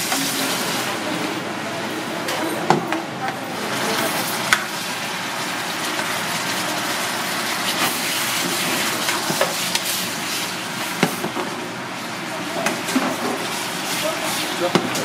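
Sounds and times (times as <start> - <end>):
food sizzling in frying pan: 0.0 - 1.1, 3.7 - 15.0.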